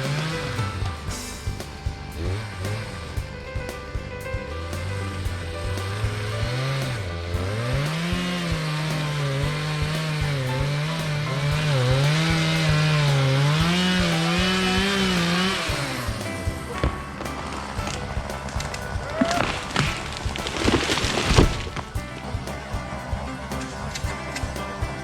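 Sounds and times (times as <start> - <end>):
chainsaw cutting tree: 0.0 - 3.2, 4.9 - 25.0
background music: 0.0 - 25.0.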